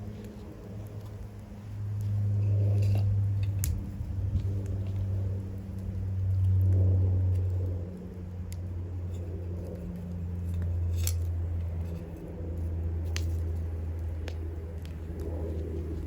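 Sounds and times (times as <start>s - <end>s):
bonfire crackling and popping: 0.0s - 16.0s
steady low hum: 0.0s - 16.0s.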